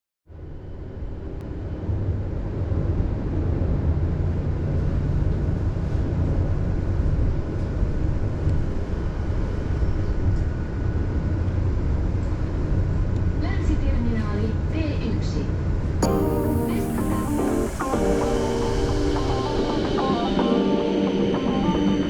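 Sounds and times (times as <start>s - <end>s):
tram running rumble: 0.6s - 22.0s.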